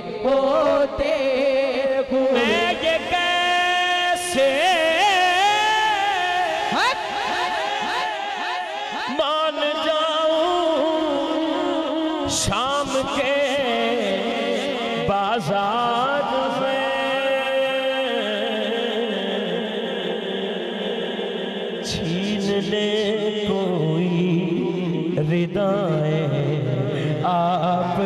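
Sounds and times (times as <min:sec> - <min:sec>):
man singing into a microphone: 0:00.0 - 0:28.0.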